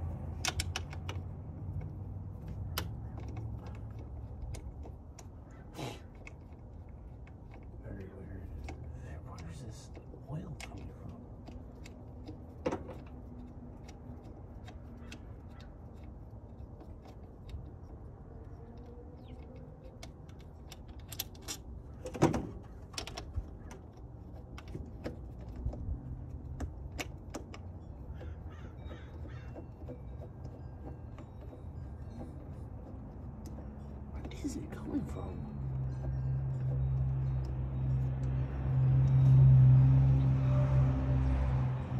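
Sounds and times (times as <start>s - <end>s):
tools clicking and knocking: 0.0s - 40.0s.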